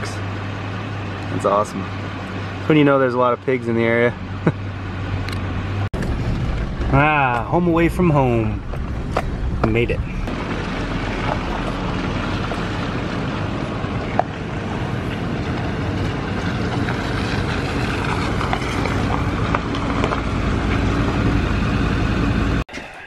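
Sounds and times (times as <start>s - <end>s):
tyre and road rumble: 0.0s - 22.6s
truck engine drone: 0.0s - 23.0s.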